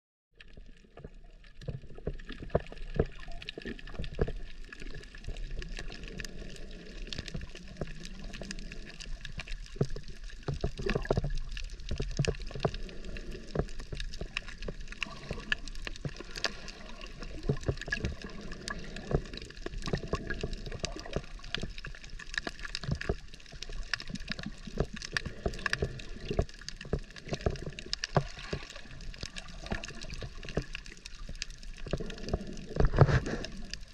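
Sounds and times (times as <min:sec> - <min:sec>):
muffled underwater water movement: 0:00.4 - 0:33.9
sharp underwater clicks and crackles: 0:00.4 - 0:33.9.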